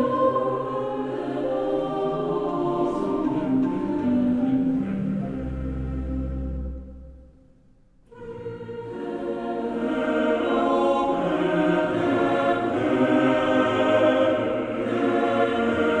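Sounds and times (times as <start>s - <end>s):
choral background music: 0.0s - 16.0s.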